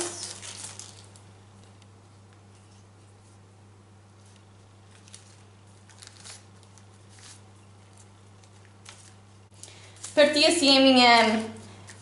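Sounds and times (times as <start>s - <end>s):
pastry rustling on baking paper: 0.0s - 1.8s, 2.5s - 12.0s
steady low hum: 0.0s - 12.0s.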